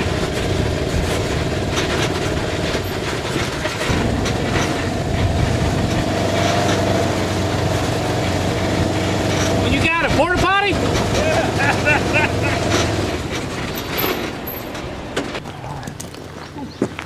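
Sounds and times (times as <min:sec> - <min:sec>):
vehicle body rattling: 0:00.0 - 0:15.4
vehicle engine drone: 0:00.0 - 0:16.8.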